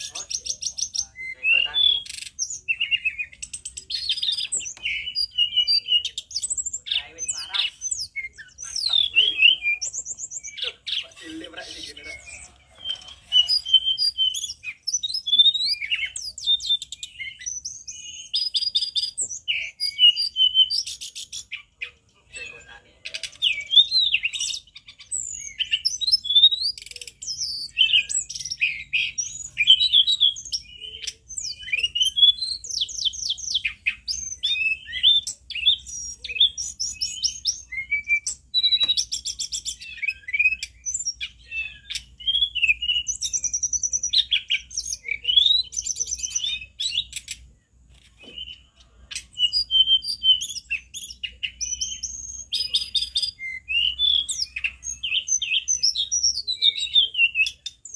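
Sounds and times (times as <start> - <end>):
bird singing whistles and trills: 0.0 - 57.9.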